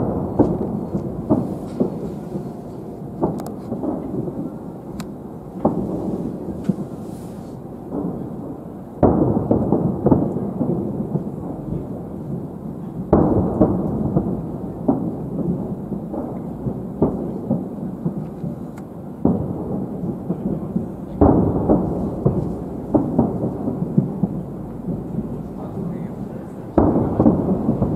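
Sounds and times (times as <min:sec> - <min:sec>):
distant firework booms: 0:00.0 - 0:27.9.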